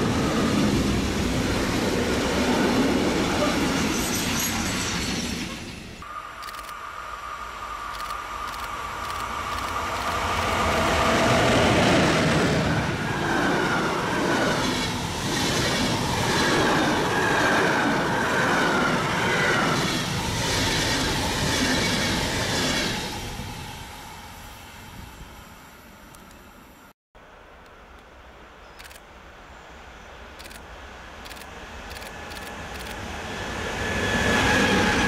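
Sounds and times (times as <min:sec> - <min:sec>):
train rolling on rails: 0:00.0 - 0:26.9, 0:30.2 - 0:35.0.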